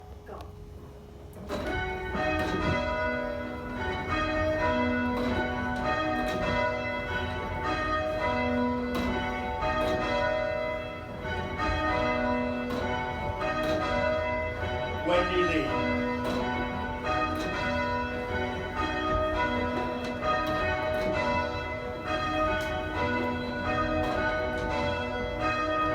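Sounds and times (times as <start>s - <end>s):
church bells change ringing: 1.4s - 25.9s.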